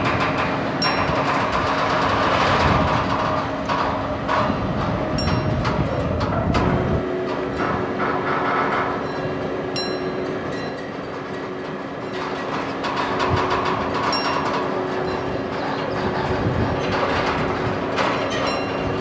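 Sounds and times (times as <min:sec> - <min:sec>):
crane metal squealing: 0:00.0 - 0:19.0
mechanical drone: 0:00.0 - 0:19.0.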